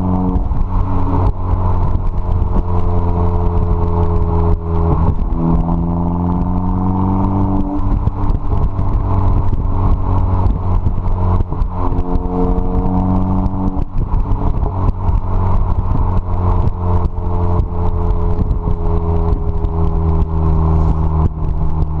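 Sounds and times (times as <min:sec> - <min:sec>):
car engine with deep exhaust note: 0:00.0 - 0:22.0.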